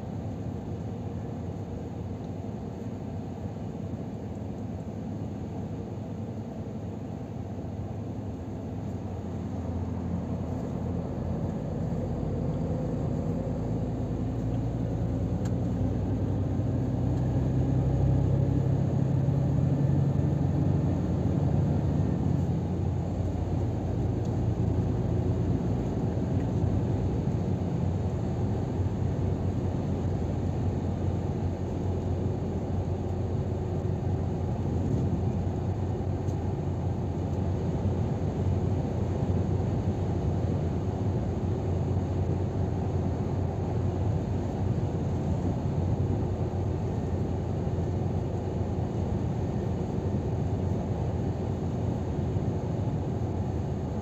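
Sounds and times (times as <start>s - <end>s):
truck engine drone: 6.2s - 54.0s.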